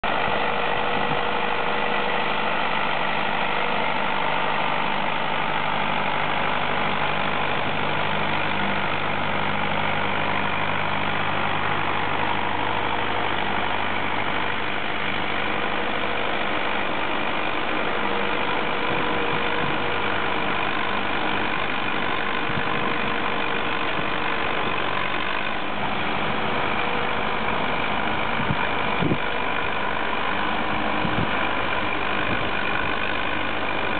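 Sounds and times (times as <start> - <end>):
tractor diesel engine under load: 0.0 - 33.9.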